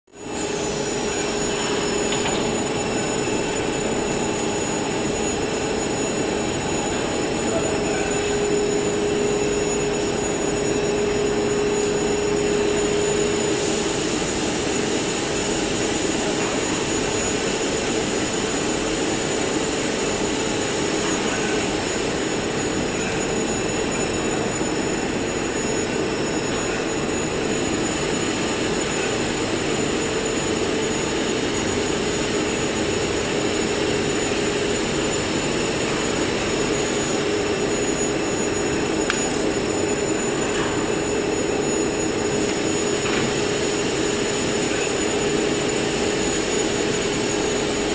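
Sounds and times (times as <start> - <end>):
high whines: 0.2 - 47.9
winding machine whir and hiss: 0.2 - 47.9.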